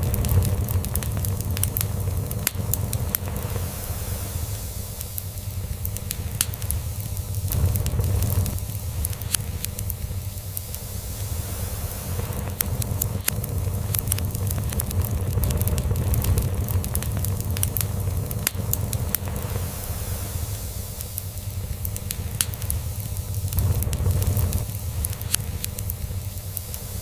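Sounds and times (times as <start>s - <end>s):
log fire crackling and popping: 0.0s - 27.0s.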